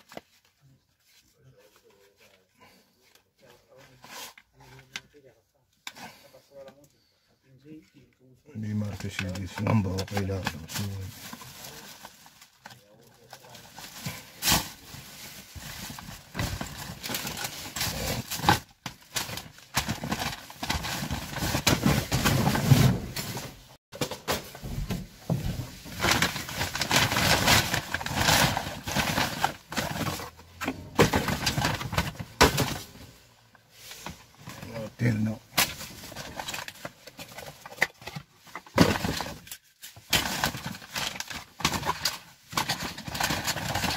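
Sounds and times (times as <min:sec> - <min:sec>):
plastic and cardboard rustling: 0:00.0 - 0:06.8, 0:08.6 - 0:43.9.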